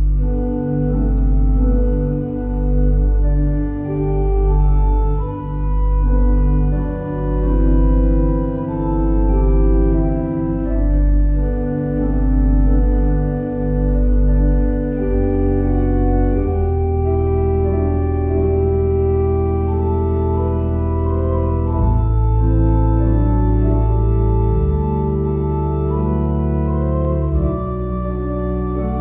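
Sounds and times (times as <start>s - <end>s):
church organ chords: 0.0s - 29.0s
low organ pedal bass notes: 0.0s - 29.0s.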